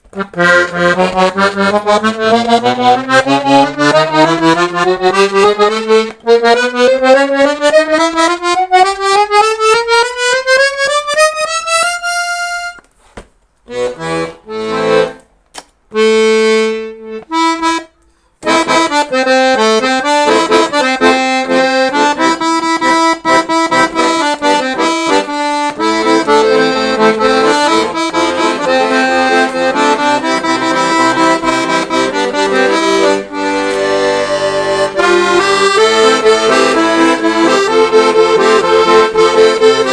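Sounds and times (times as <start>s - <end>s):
accordion playing: 0.0s - 39.9s.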